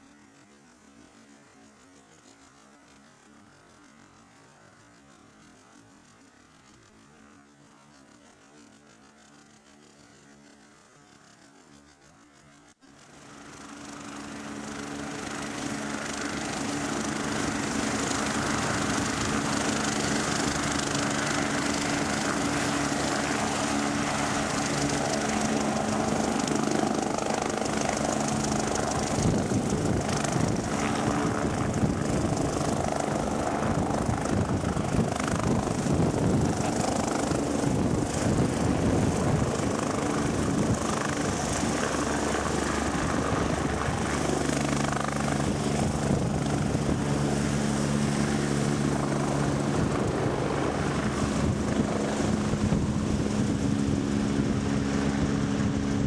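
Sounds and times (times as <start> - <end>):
helicopter rotor beating: 0.0 - 56.0
helicopter turbine whine: 0.0 - 56.0.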